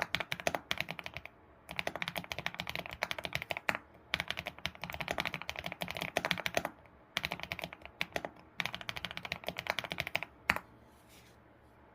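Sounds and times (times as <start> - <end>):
keyboard typing: 0.0 - 10.7.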